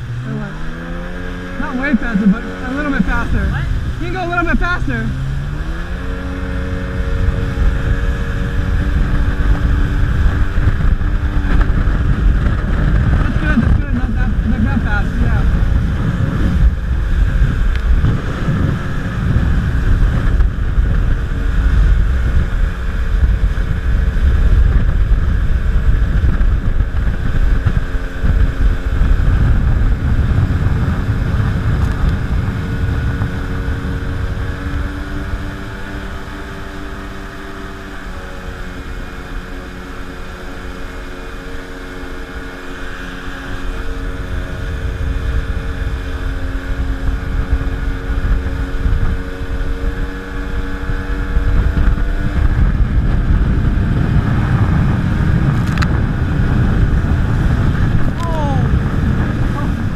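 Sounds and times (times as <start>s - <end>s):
jet ski engine running: 0.0s - 59.9s
wind buffeting microphone: 0.0s - 59.9s.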